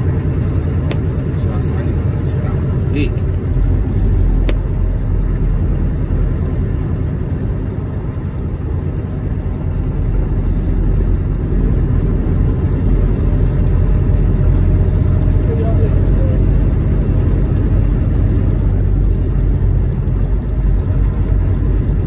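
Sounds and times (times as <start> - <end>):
truck engine rumble: 0.0 - 22.0
tyres on snowy road: 0.0 - 22.0.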